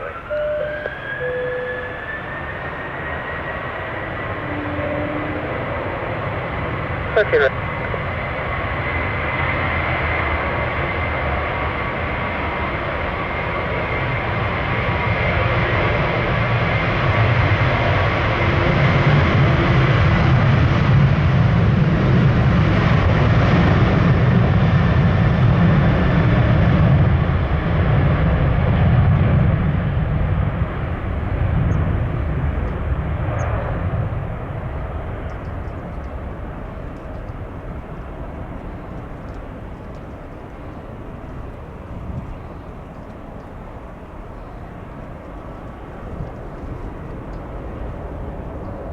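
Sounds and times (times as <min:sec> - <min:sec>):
jet engines roaring at takeoff: 0:00.0 - 0:48.9.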